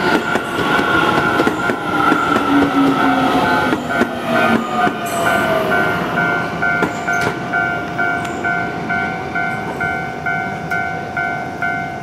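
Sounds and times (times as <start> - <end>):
electric train rumbling past: 0.0 - 12.0
level-crossing warning bell ringing: 0.0 - 12.0.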